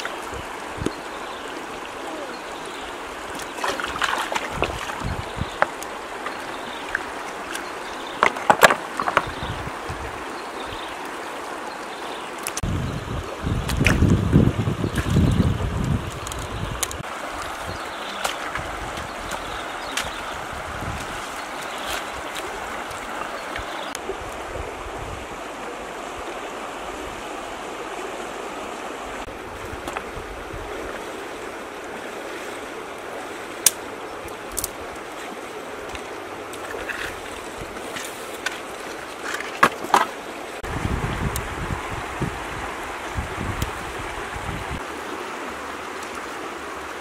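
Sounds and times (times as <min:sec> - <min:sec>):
river flowing over rocks: 0:00.0 - 0:12.6, 0:14.2 - 0:47.0.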